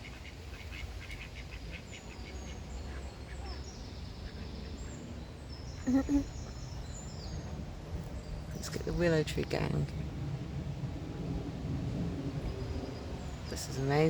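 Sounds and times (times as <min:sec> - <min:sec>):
steady low rumble: 0:01.0 - 0:14.0.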